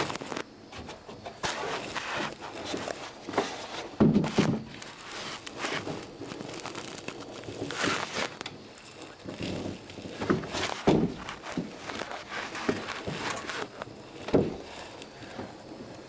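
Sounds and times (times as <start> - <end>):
wood scraping and creaking: 0.0 - 16.0.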